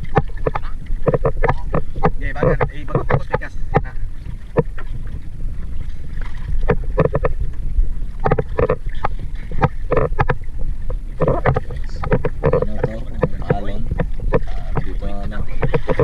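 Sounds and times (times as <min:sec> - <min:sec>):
boat engine rumble: 0:00.0 - 0:16.0
wind on microphone: 0:00.0 - 0:16.0.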